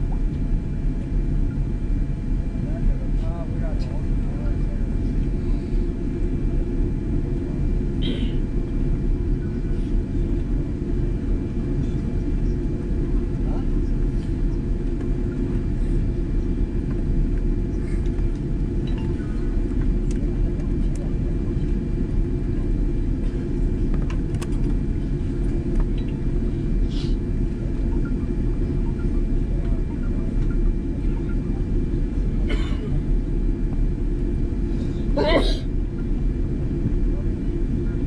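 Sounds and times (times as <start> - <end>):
aircraft cabin rumble: 0.0 - 38.0
faint steady hum: 0.0 - 38.0.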